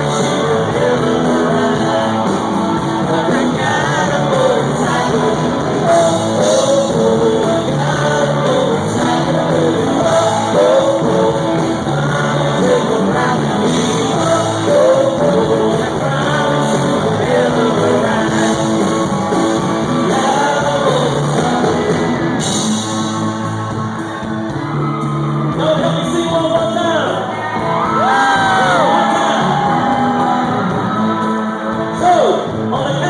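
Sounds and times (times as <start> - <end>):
man singing: 0.0 - 22.8, 25.5 - 27.3, 27.9 - 33.0
live country-rock band: 0.0 - 33.0.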